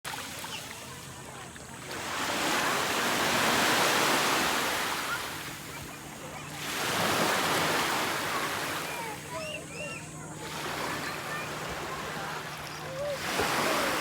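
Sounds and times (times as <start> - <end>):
sea waves washing onto beach: 0.1 - 14.0.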